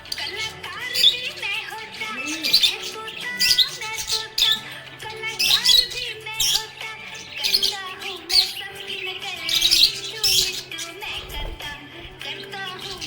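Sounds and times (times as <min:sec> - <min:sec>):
budgerigar chirping: 0:00.0 - 0:11.5
background music: 0:00.0 - 0:13.0.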